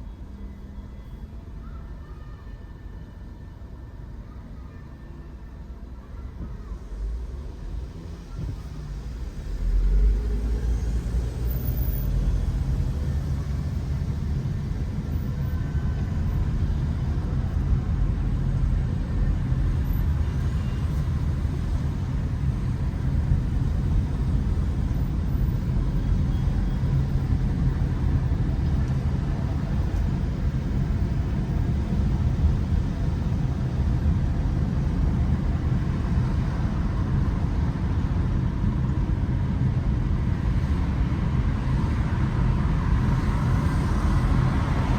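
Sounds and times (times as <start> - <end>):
car engine and tyre rumble: 0.0 - 44.9.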